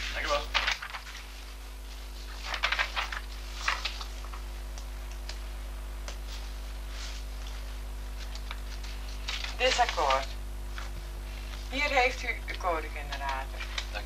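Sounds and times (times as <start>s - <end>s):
paper rustling: 0.0s - 5.3s, 6.1s - 12.4s, 13.0s - 14.0s
electrical hum: 0.0s - 14.0s.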